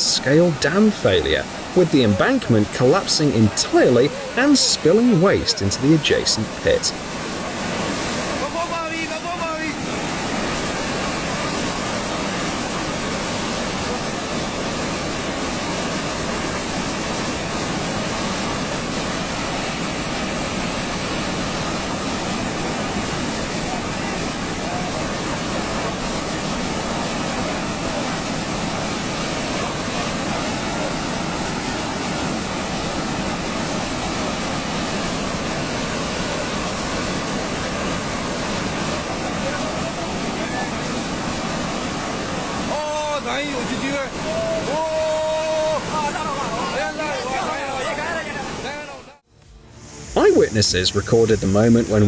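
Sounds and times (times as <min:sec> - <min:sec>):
water and mud rushing: 0:00.0 - 0:49.0, 0:50.0 - 0:52.0.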